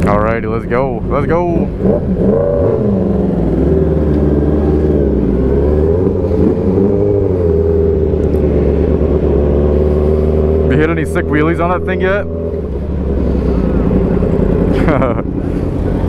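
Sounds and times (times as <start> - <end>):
motorcycle engine pulling away: 1.8 - 16.0.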